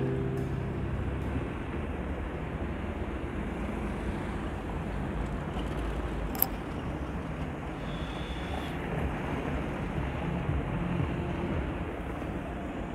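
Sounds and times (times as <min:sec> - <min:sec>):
road traffic passing: 0:00.0 - 0:12.9.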